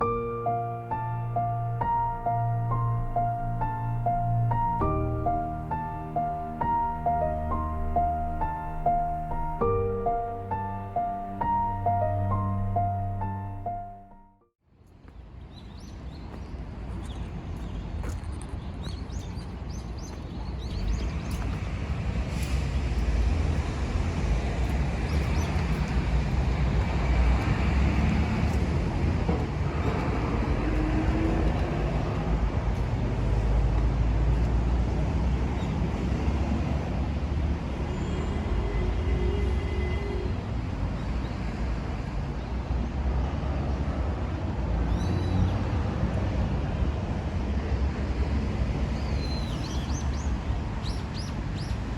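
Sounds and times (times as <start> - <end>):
road traffic rumble: 0.0 - 14.3, 15.9 - 51.9.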